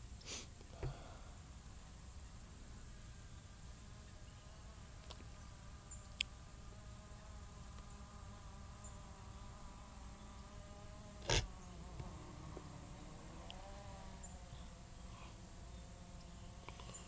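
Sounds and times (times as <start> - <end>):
faint steady hum: 0.0 - 17.0
high thin insect buzz: 0.1 - 17.0.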